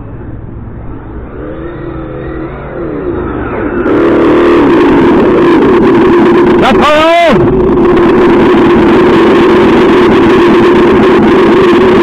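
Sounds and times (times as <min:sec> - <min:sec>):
simulated engine sound revving: 0:00.0 - 0:12.0.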